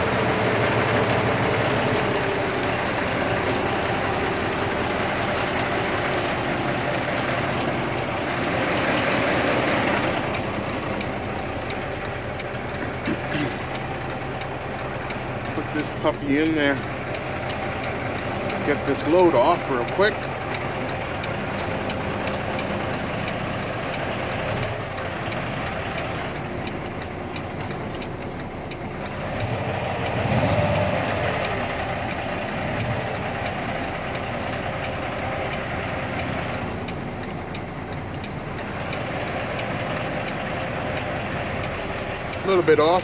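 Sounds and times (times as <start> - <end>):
diesel truck engine running: 0.0 - 43.0
truck rattling: 0.0 - 43.0.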